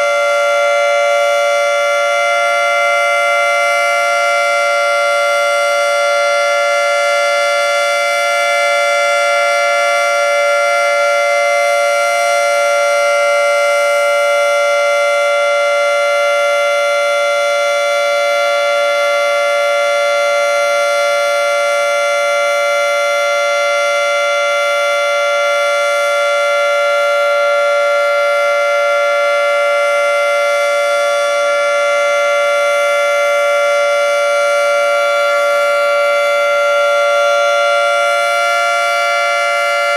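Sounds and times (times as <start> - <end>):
dual-tone warning siren: 0.0 - 39.9.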